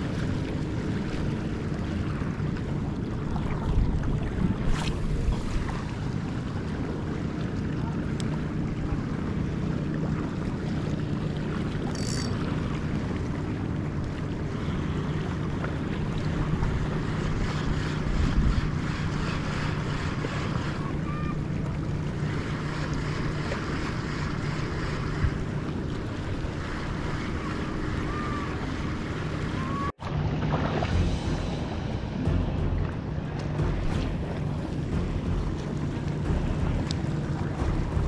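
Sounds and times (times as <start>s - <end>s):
wind on microphone: 0.0s - 7.2s, 14.4s - 38.0s
boat diesel engine running: 0.0s - 38.0s
water washing: 0.0s - 38.0s.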